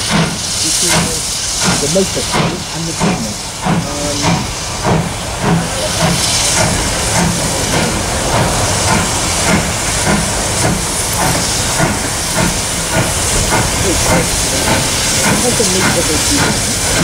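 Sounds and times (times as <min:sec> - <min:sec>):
loud hiss of steam: 0:00.0 - 0:17.0
steam engine exhaust chuffing: 0:00.0 - 0:17.0.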